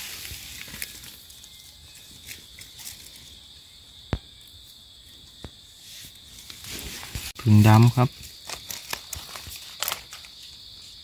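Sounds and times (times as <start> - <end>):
rustling of dry leaf litter: 0.0 - 3.5, 5.7 - 11.0
insects droning: 0.0 - 11.0.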